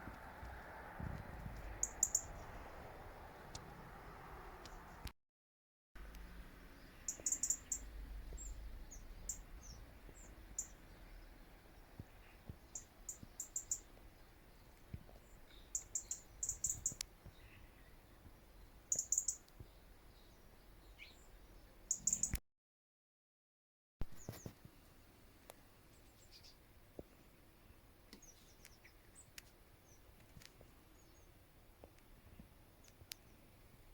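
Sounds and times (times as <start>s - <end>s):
faint outdoor background noise: 0.0s - 5.1s, 6.0s - 22.4s, 24.0s - 33.9s
small birds chirping: 0.0s - 5.1s, 6.0s - 22.4s, 25.5s - 33.6s.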